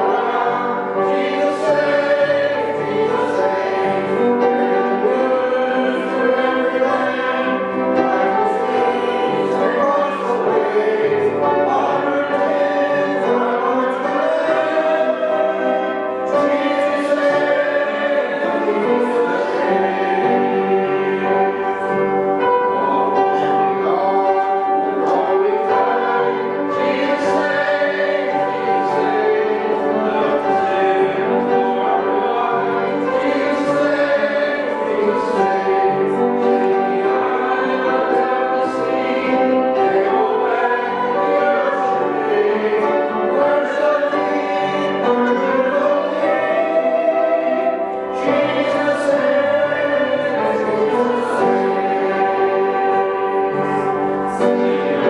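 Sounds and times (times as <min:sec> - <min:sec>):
congregation singing a hymn: 0:00.0 - 0:55.0
sustained accompaniment: 0:00.0 - 0:55.0.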